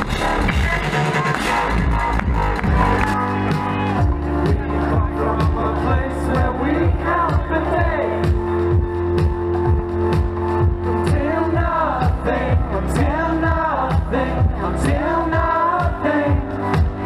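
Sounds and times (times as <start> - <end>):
live electronic dance music: 0.0 - 17.0
sustained bass line: 0.0 - 17.0
person singing: 0.3 - 8.8, 10.7 - 17.0.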